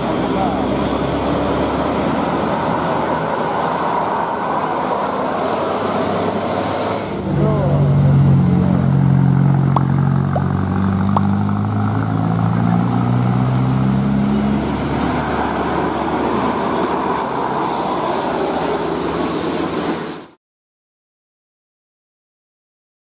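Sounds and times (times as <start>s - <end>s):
bus engine droning: 0.0s - 20.4s
road noise rushing: 0.0s - 20.4s.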